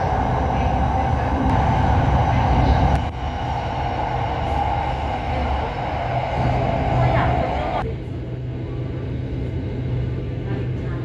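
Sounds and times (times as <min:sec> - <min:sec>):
high-pitched train hum: 0:00.0 - 0:11.0
train wheels rumbling: 0:00.0 - 0:11.0.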